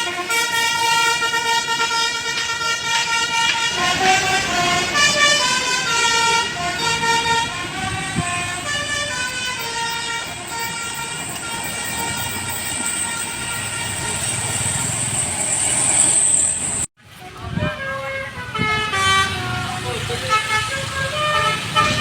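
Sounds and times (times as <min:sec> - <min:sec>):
musical bus horn tune: 0:00.0 - 0:15.1, 0:17.2 - 0:22.0
vehicle noise: 0:00.0 - 0:22.0.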